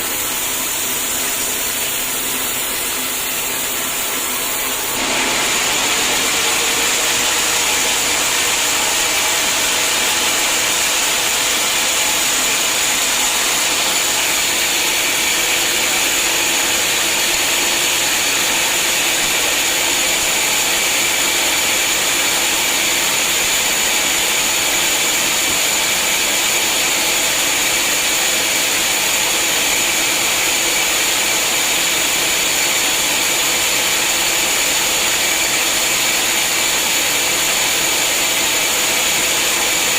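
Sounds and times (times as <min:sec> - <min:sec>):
machine noise: 0:00.0 - 0:39.9
sawmill saw whining through log: 0:00.0 - 0:39.9.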